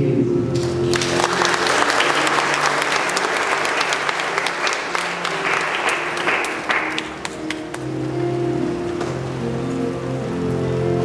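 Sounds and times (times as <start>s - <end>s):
soft background music: 0.0s - 11.0s
audience applauding: 0.6s - 9.4s.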